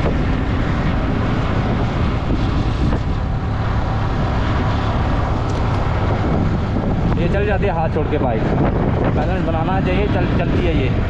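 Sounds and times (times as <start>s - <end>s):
motorcycle engine drone: 0.0s - 11.0s
wind rushing over microphone: 0.0s - 11.0s.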